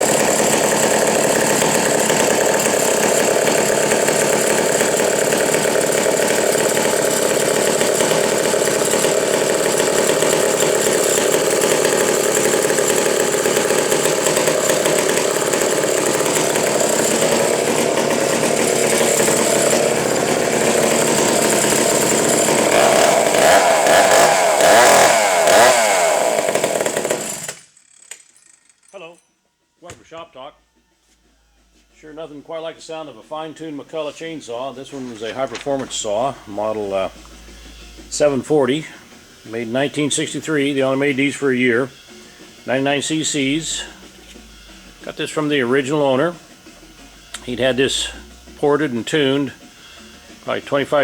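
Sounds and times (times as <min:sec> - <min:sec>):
chainsaw running and revving: 0:00.0 - 0:27.8, 0:36.0 - 0:51.0.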